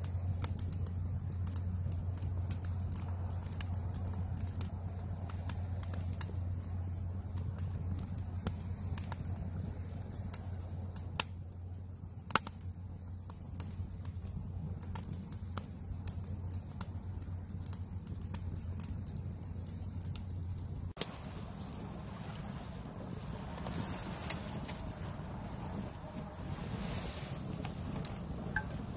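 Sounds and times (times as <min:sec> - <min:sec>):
campfire crackling and popping: 0:00.0 - 0:28.9
low rumble: 0:00.0 - 0:28.9.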